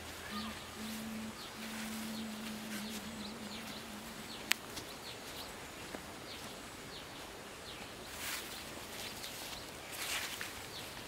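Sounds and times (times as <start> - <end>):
birds chirping: 0.0 - 11.0
faint steady hum: 0.0 - 11.0.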